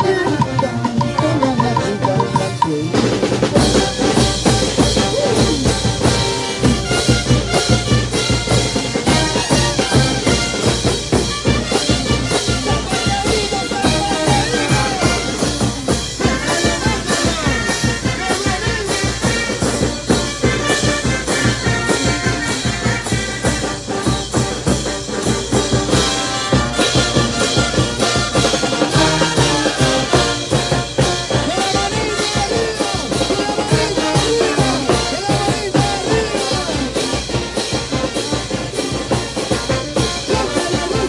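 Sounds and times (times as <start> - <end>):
bass drum beat: 0.0 - 41.0
brass band playing: 0.0 - 41.0.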